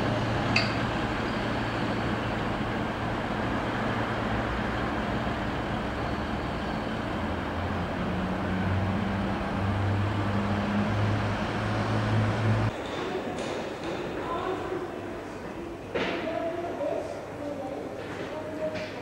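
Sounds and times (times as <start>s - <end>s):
trains running through station: 0.0s - 19.0s.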